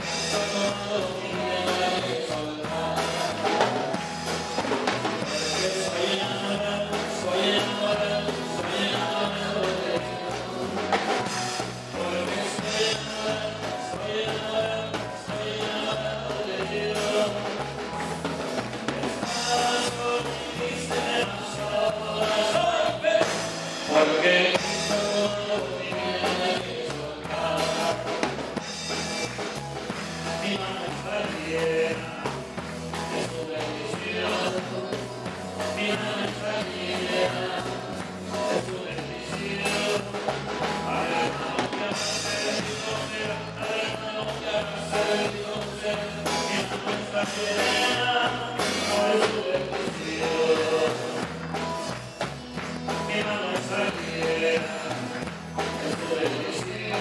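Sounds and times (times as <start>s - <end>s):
drum kit beat: 0.0s - 57.0s
voices singing worship song: 0.0s - 57.0s.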